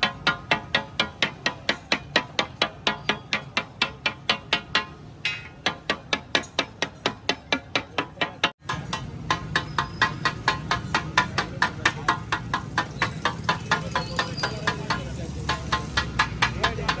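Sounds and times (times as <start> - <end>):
metal spatulas striking griddle: 0.0 - 17.0.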